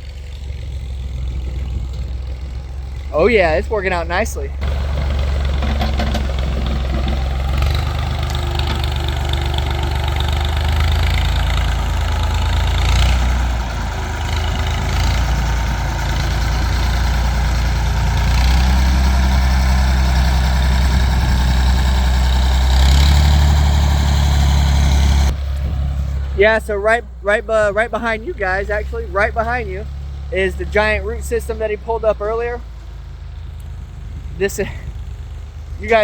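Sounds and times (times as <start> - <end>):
tractor engine under load: 0.0 - 36.0.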